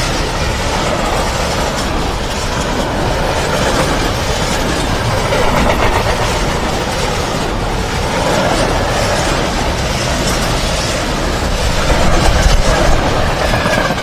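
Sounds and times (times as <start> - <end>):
train wheels rolling on track: 0.0 - 14.0.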